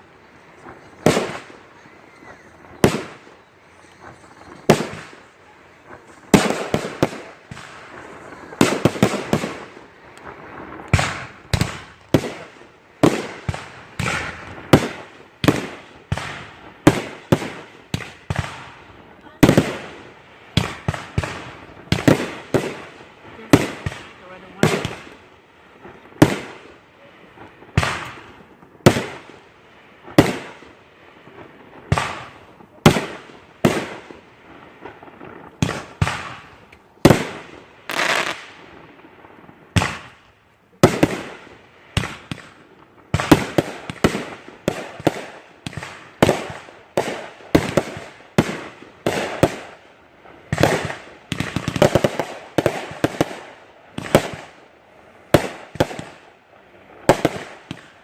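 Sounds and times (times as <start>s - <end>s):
fireworks banging: 0.0s - 58.0s.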